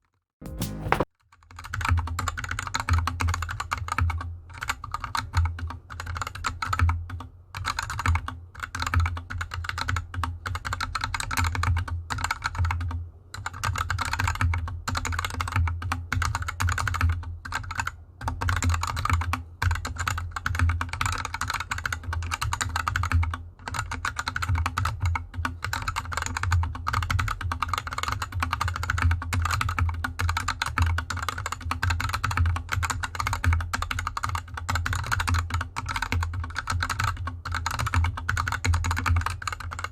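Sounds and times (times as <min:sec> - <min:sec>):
mechanical keyboard typing: 0:00.5 - 0:39.9.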